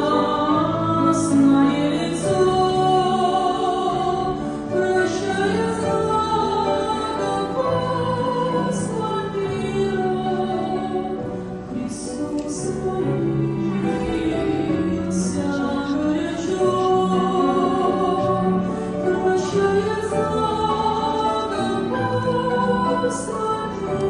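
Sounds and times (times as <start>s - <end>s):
voices singing a hymn: 0.0s - 24.0s.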